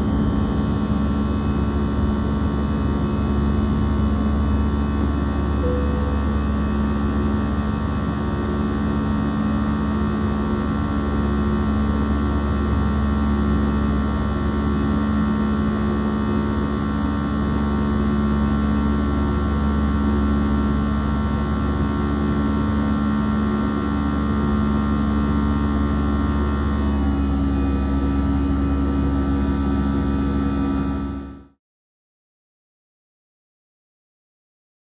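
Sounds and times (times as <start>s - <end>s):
airplane cabin drone: 0.0s - 31.6s.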